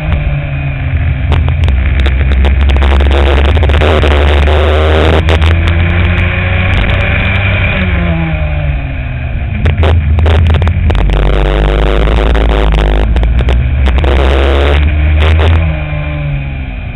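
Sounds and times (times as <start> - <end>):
go-kart engine: 0.0 - 16.9
heavy low rumble: 0.0 - 16.9.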